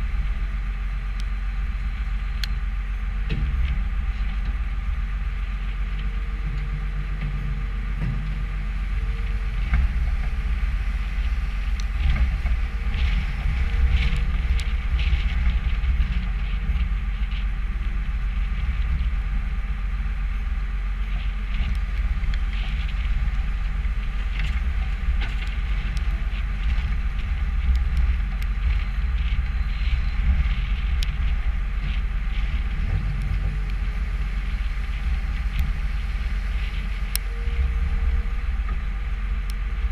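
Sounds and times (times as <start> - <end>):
diesel engine running: 0.0 - 39.9
machine clanks and rattles: 3.2 - 39.9.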